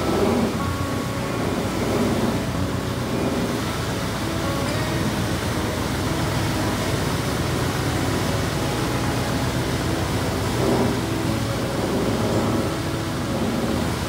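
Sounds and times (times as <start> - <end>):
churning wake water: 0.0 - 14.0
ferry engine hum: 0.0 - 14.0
rushing wind: 0.0 - 14.0.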